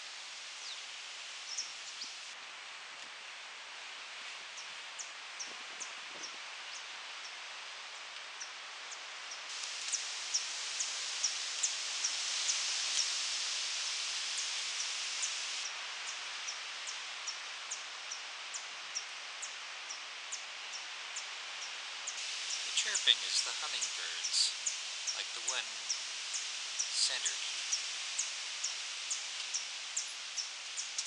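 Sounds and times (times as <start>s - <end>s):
wind in trees: 0.0s - 31.0s.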